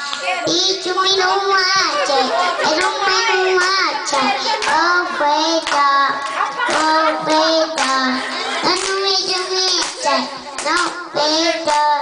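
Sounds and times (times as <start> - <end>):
girl singing into microphone: 0.0 - 12.0.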